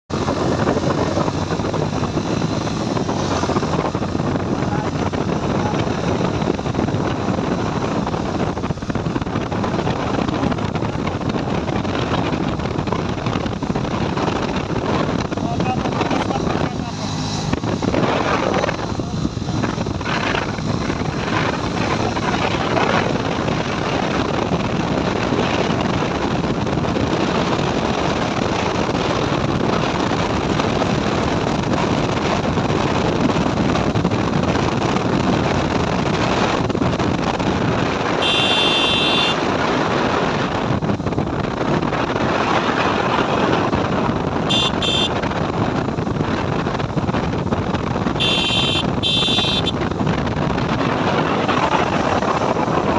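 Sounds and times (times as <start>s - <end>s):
motorcycle running: 0.1s - 52.9s
wind rush on microphone: 0.1s - 52.9s.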